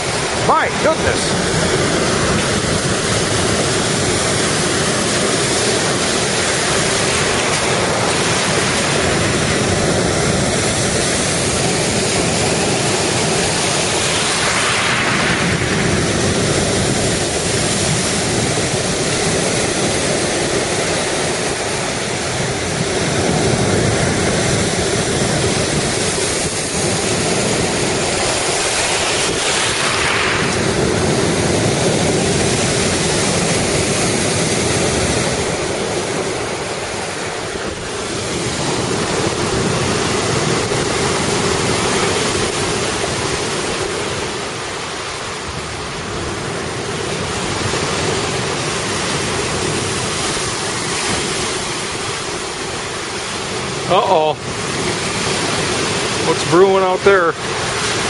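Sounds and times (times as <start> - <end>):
heavy surf breaking on beach: 0.0 - 58.0
wind buffeting microphone: 0.0 - 58.0.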